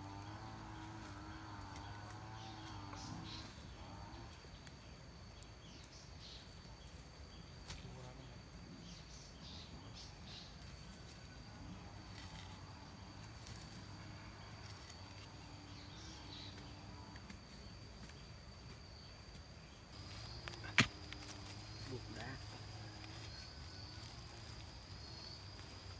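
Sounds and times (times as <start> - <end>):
high-pitched insect trill: 0.0 - 25.9.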